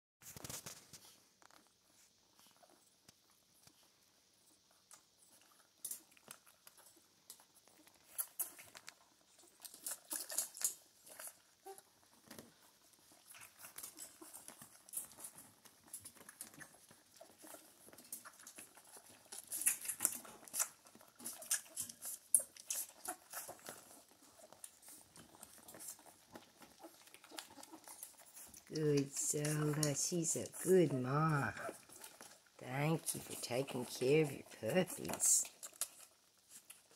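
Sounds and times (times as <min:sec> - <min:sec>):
puppies suckling: 0:00.3 - 0:36.9.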